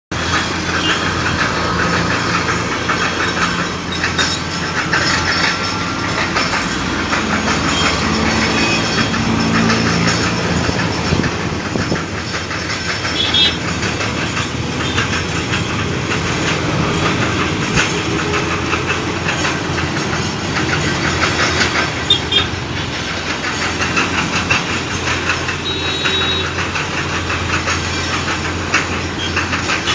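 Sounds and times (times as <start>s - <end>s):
heavy truck running: 0.1s - 29.9s
vehicles passing: 0.1s - 29.9s.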